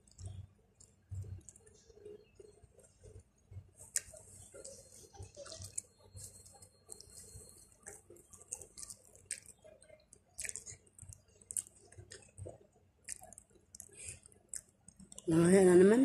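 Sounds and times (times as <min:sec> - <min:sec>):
person chewing food: 0:00.0 - 0:15.3.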